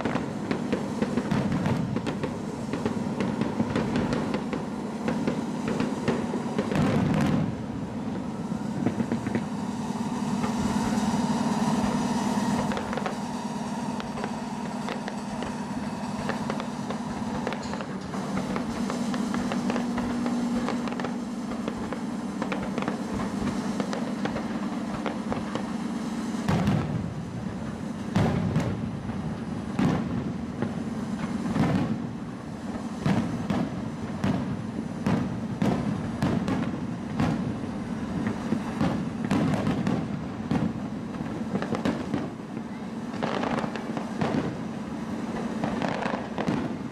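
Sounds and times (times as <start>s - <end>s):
droning hum: 0.0s - 46.9s
fireworks bursting and crackling: 0.0s - 46.9s.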